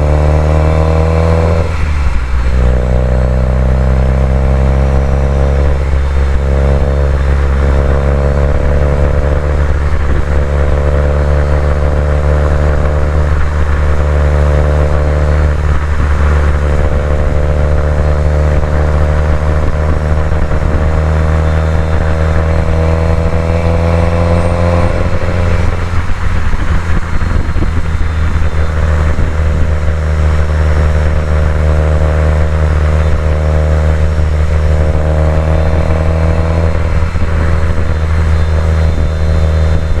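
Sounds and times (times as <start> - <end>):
car engine running under load: 0.0 - 40.0.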